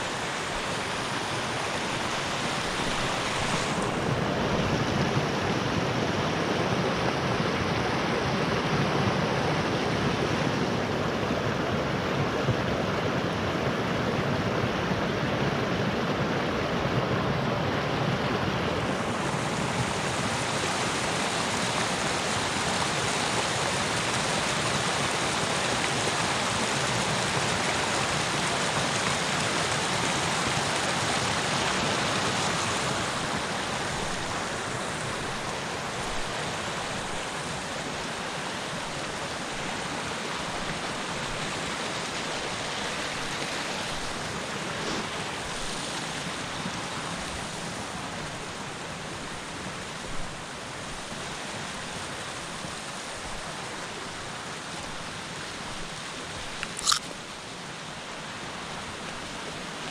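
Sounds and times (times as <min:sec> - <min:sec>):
creek rushing over cascades: 0:00.0 - 0:59.9.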